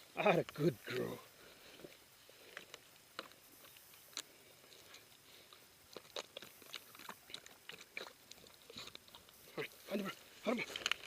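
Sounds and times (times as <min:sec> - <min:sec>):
faint crunching and clicking: 0:00.0 - 0:11.0.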